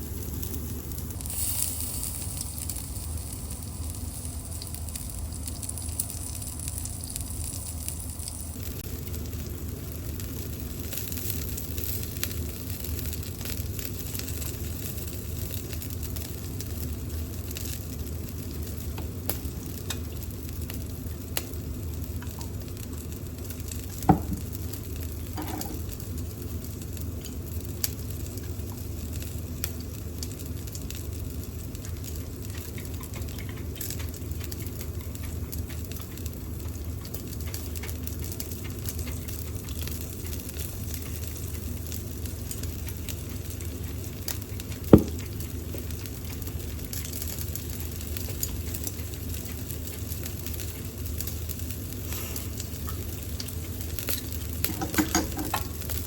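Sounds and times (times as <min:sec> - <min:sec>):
range hood fan hum: 0:00.0 - 0:56.0
skewers sizzling on grill: 0:00.0 - 0:56.0.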